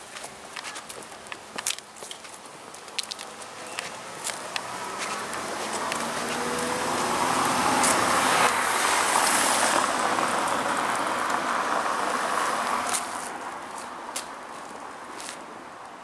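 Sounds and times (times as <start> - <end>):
car tyres on brick street: 0.0 - 16.0.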